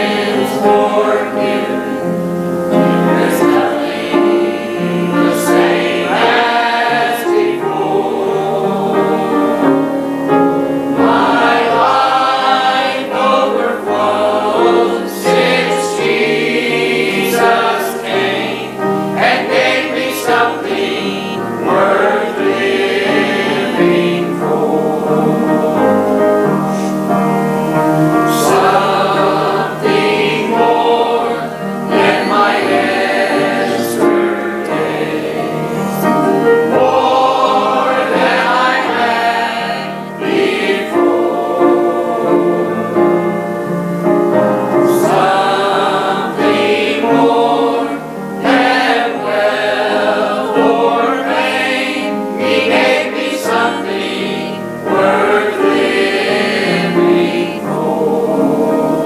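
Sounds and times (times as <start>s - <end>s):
choir singing gospel: 0.0s - 59.0s
piano accompaniment: 0.0s - 59.0s.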